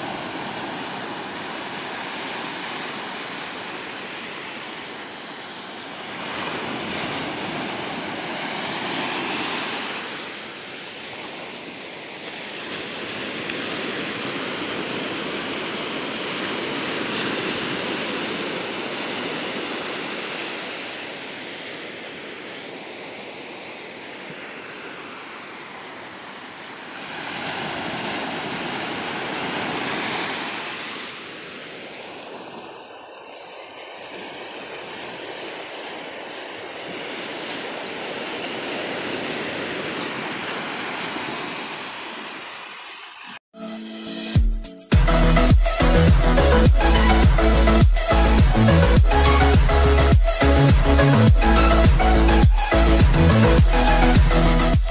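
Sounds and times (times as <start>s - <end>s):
waves washing up beach: 0.0s - 43.5s, 45.6s - 54.9s.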